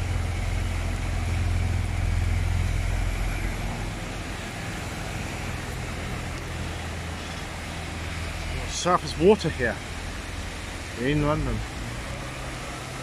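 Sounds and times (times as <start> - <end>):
car engine hum: 0.0 - 13.0
tyres hissing through water: 0.0 - 13.0.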